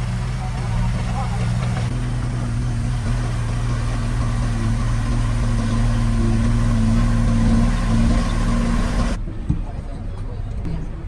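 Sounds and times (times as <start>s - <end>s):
diesel machine engine running: 0.0s - 9.2s.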